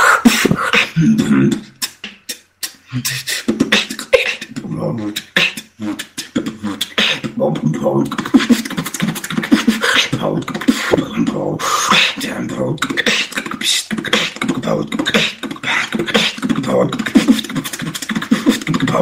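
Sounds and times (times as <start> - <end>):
person beatboxing: 0.0 - 19.0.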